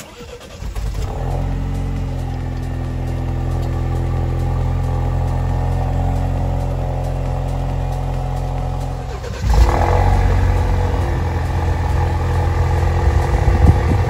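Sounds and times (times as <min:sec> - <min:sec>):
car exhaust idling: 0:00.0 - 0:14.0
deep loud car exhaust note: 0:00.9 - 0:14.0.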